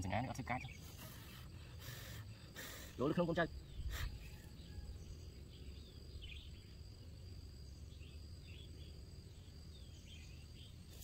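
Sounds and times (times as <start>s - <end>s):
bird chirps: 0.0s - 11.0s
high insect trill: 0.0s - 11.0s
low wind rumble: 1.5s - 10.9s.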